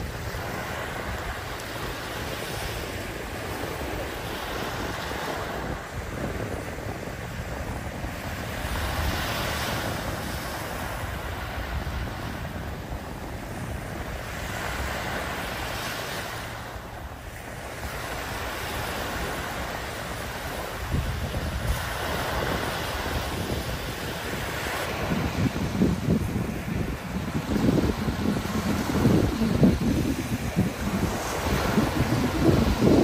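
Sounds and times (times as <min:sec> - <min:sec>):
waves breaking on beach: 0:00.0 - 0:33.0
wind rumbling on microphone: 0:00.0 - 0:33.0.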